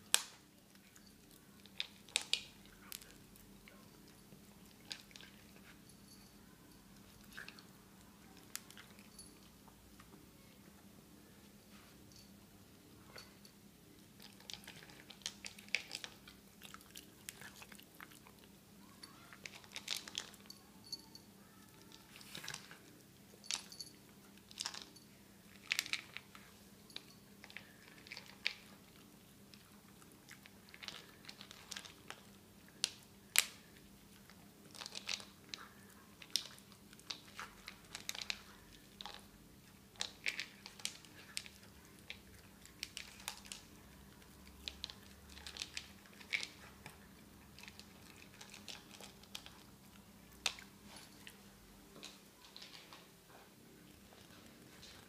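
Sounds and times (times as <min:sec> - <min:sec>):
dog crunching dry kibble: 0:00.1 - 0:05.8, 0:14.0 - 0:21.0, 0:21.8 - 0:53.2.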